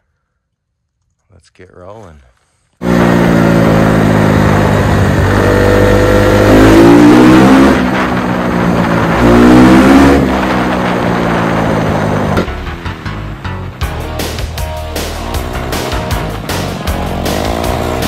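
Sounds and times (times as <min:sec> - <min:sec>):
dirt bike engine accelerating: 0:02.8 - 0:18.0.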